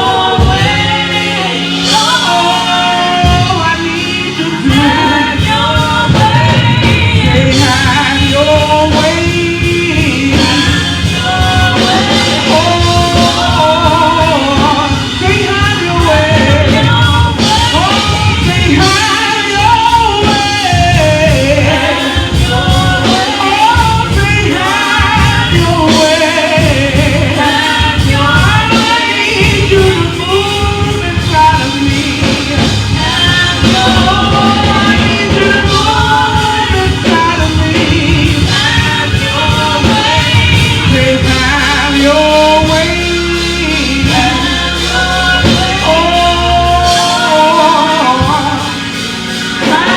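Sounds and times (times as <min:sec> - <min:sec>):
bass: 0:00.0 - 0:49.9
drums: 0:00.0 - 0:49.9
keyboard: 0:00.0 - 0:49.9
voices singing gospel: 0:00.0 - 0:49.9.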